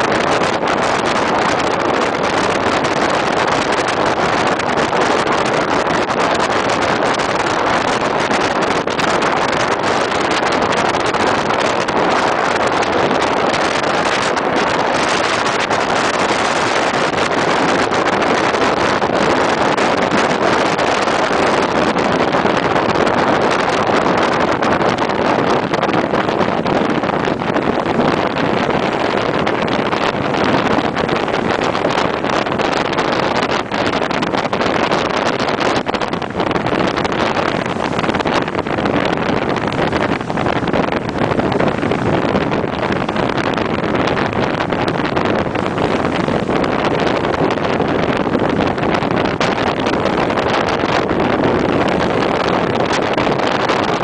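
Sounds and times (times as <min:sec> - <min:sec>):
motorboat engines and water rush: 0:00.0 - 0:54.0
wind buffeting microphone: 0:00.0 - 0:54.0.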